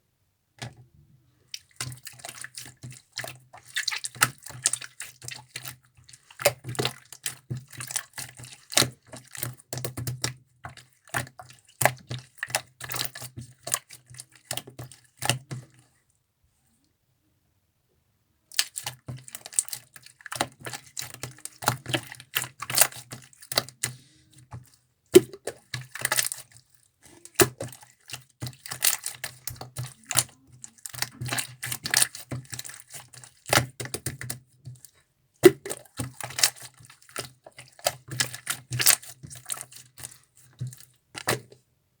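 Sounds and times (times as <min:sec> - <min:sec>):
slime squelching and popping: 0:01.5 - 0:15.5, 0:18.5 - 0:41.6.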